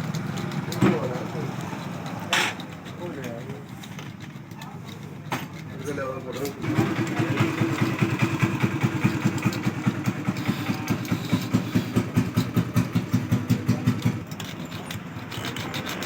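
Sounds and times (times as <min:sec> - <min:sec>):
engine idling with rapid thump: 0:00.0 - 0:04.1, 0:06.4 - 0:16.0.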